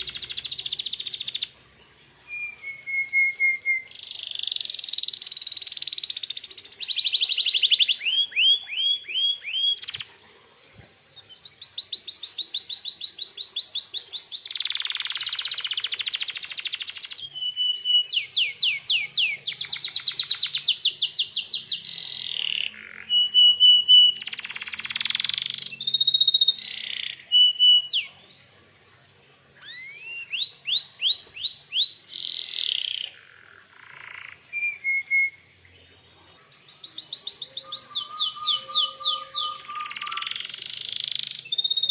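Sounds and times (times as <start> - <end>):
canary singing trills: 0.0 - 10.2, 11.1 - 28.8, 29.6 - 41.9.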